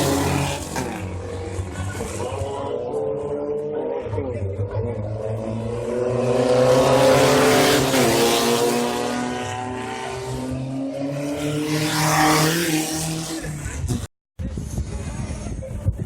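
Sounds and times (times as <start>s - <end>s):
race car engine running hard: 0.0s - 14.1s.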